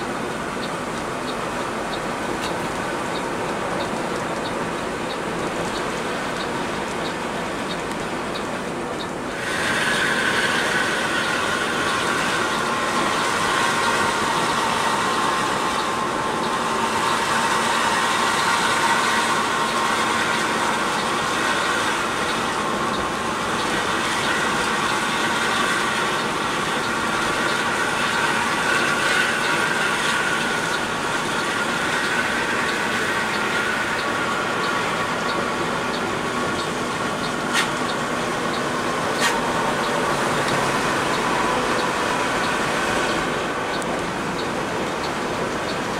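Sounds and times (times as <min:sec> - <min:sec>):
coach road and engine drone: 0:00.0 - 0:45.9
steady high hum: 0:00.0 - 0:45.9.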